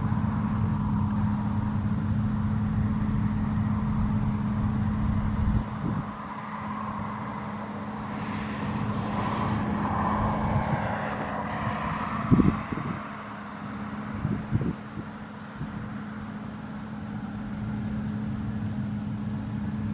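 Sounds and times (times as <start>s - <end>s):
combine harvester engine drone: 0.0s - 19.9s.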